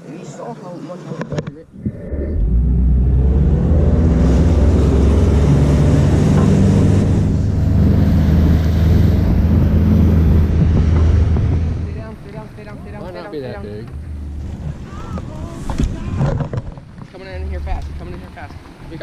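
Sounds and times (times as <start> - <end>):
boat motor droning: 1.7 - 19.0.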